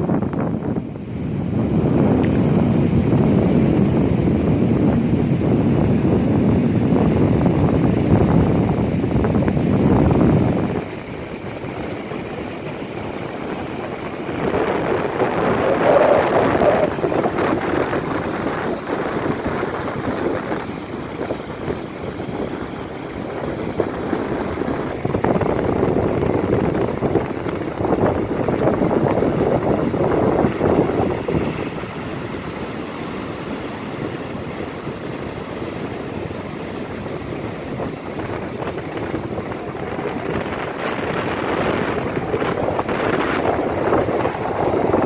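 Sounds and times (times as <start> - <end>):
ocean surf rushing: 0.0 - 45.0
wind buffeting microphone: 0.0 - 45.0.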